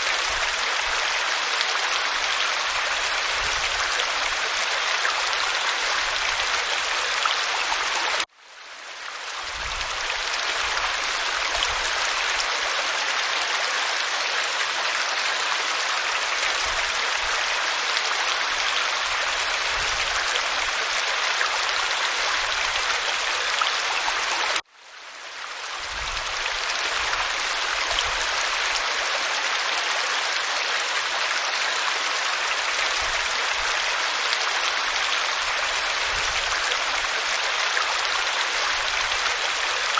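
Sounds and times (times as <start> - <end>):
waterfall rushing over rock: 0.0 - 8.3, 9.3 - 24.6, 25.8 - 39.9.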